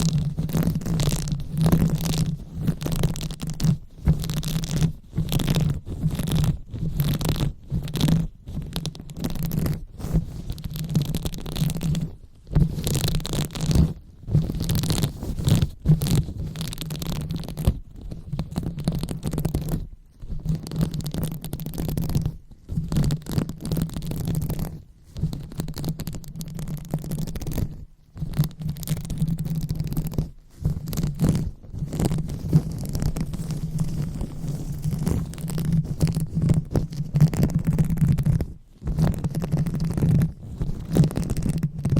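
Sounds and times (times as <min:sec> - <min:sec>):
microphone rubbed and scratched: 0:00.0 - 0:41.9.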